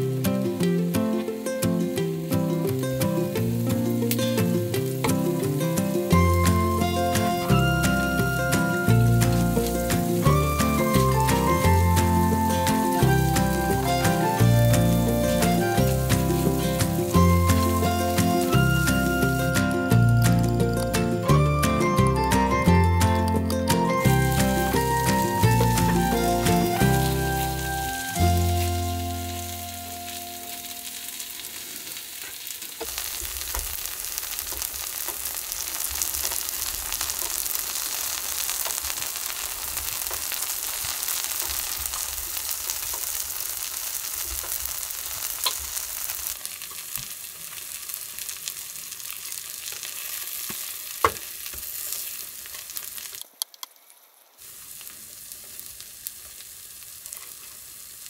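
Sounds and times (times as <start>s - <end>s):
batter sizzling on hot plate: 0.7s - 21.1s, 23.3s - 58.0s.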